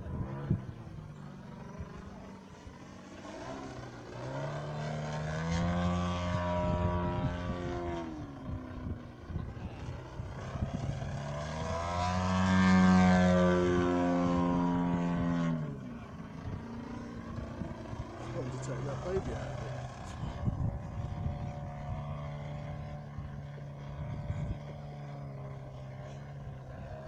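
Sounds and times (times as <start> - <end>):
model plane engine and propeller: 0.0 - 27.0.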